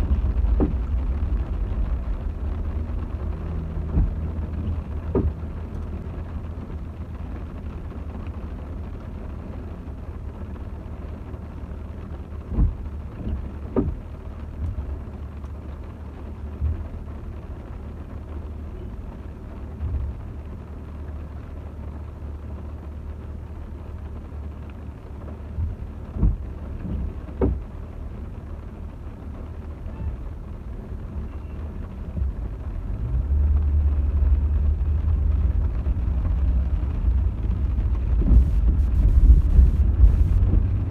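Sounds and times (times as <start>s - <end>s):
car road rumble: 0.0s - 40.9s.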